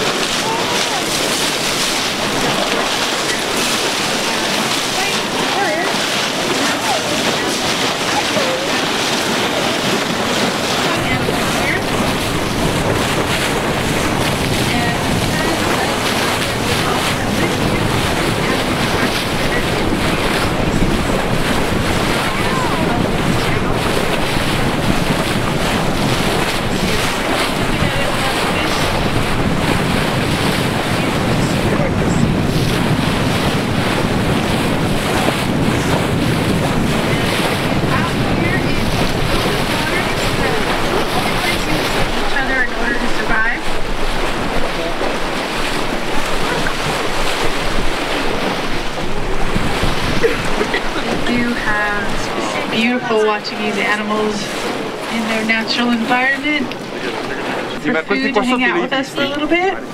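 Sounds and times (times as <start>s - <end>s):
seawater rushing around boat: 0.0s - 59.9s
wind buffeting microphone: 0.0s - 59.9s.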